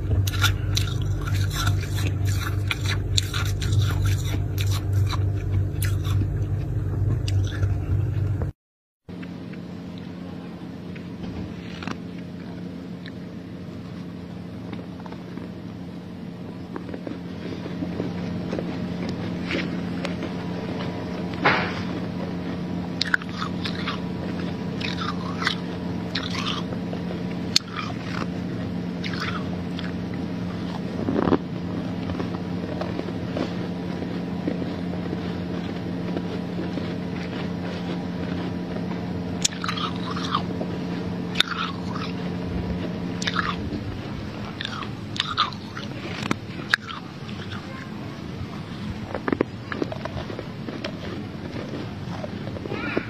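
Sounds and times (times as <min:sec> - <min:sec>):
frost crunching and scraping: 0:00.0 - 0:08.5, 0:09.2 - 0:53.0
freezer humming: 0:00.0 - 0:53.0.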